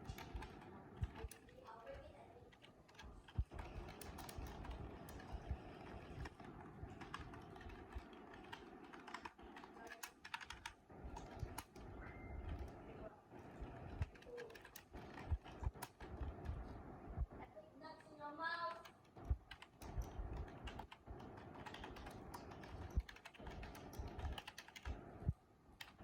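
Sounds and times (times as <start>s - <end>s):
computer keyboard typing: 0.0s - 26.0s.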